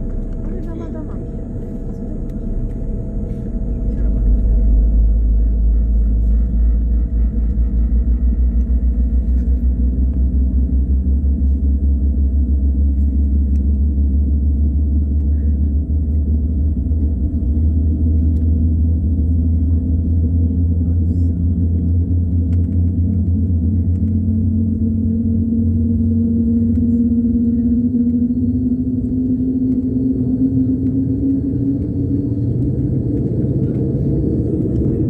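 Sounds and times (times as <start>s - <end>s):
faint steady hum: 0.0s - 35.0s
low rumbling aircraft cabin drone: 0.0s - 35.0s.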